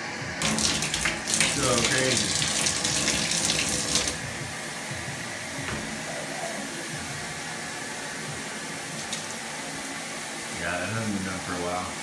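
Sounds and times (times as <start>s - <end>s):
shower head spraying water: 0.4s - 5.4s, 7.2s - 12.0s.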